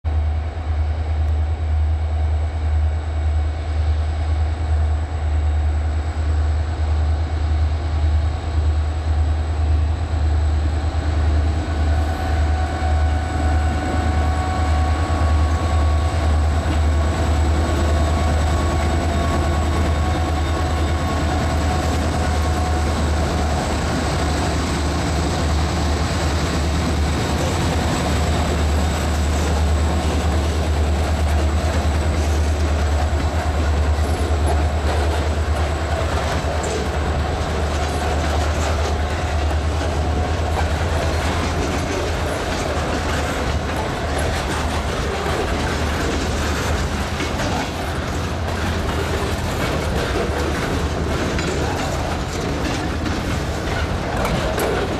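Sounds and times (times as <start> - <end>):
diesel locomotive engine rumble: 0.0 - 54.9
steady locomotive whine: 0.1 - 54.9.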